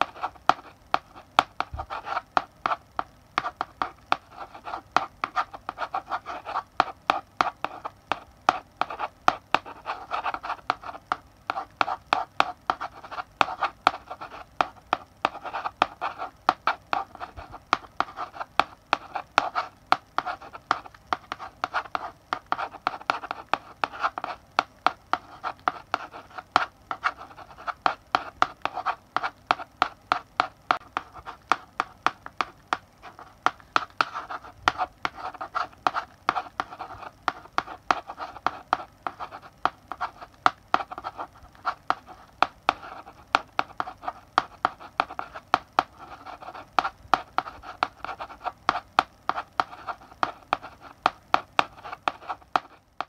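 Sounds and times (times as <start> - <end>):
chalk writing on a blackboard: 0.0 - 52.8.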